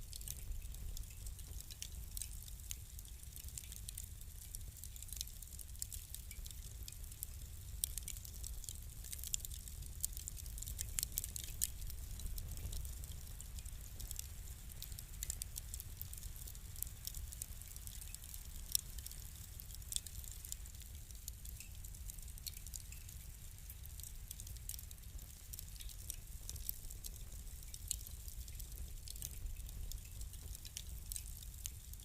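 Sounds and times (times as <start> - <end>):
fire crackling: 0.0 - 32.0.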